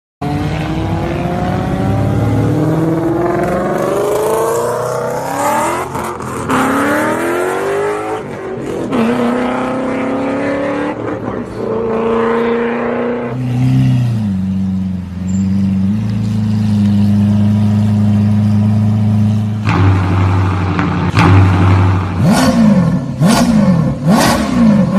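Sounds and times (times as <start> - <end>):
car engine accelerating: 0.2 - 24.9.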